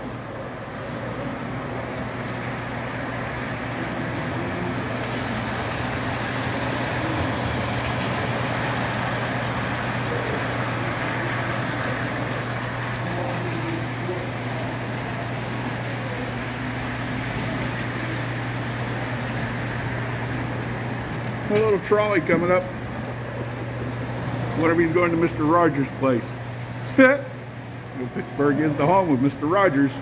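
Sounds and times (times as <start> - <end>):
constant low hum: 0.0 - 30.0
model trains rumbling whir: 0.0 - 30.0.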